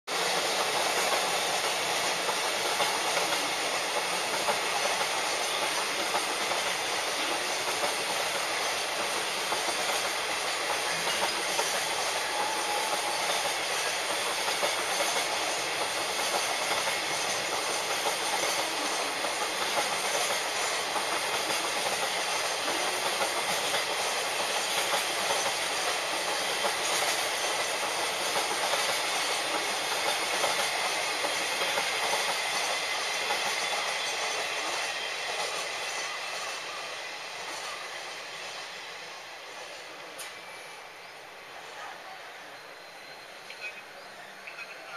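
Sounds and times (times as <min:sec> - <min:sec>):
freight train wheels on rails: 0:00.1 - 0:44.9.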